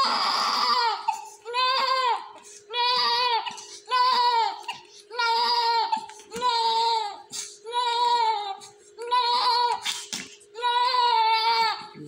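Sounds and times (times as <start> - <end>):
newborn baby crying: 0.0 - 10.0, 10.6 - 12.0.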